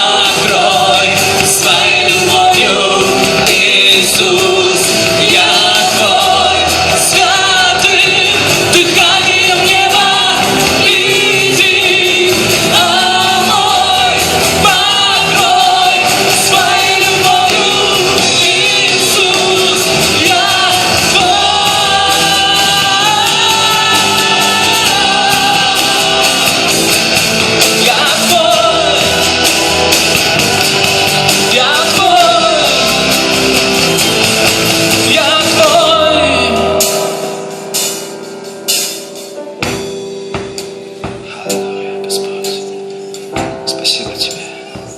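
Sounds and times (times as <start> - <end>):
voices singing: 0.0 - 37.9
band playing worship song: 0.0 - 44.9.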